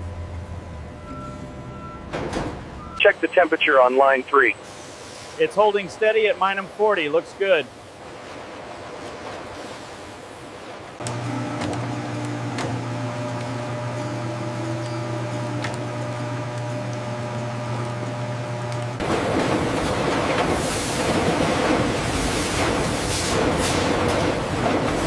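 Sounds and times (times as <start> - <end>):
factory machinery humming: 0.0 - 8.5, 9.6 - 25.0.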